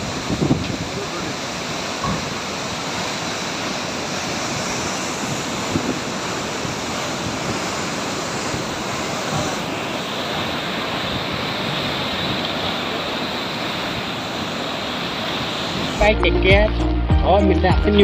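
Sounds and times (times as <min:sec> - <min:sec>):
heavy rain: 0:00.0 - 0:16.8.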